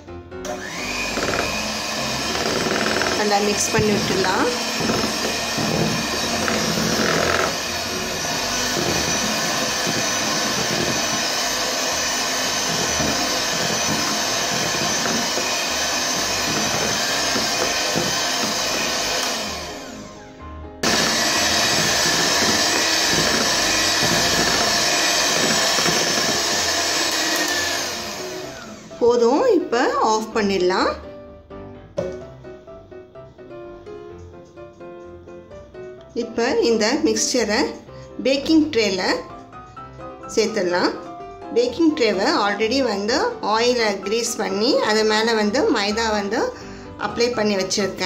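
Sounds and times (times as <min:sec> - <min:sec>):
electric hand mixer whining: 0:00.0 - 0:30.8, 0:36.6 - 0:48.0.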